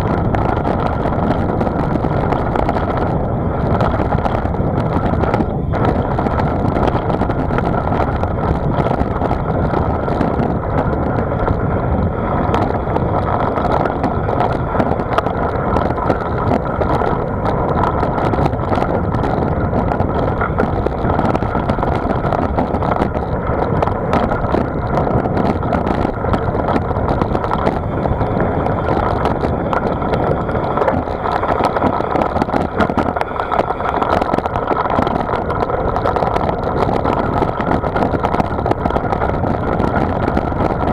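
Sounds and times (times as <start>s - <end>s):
engine drone: 0.0s - 40.9s
wind and road noise: 0.0s - 40.9s.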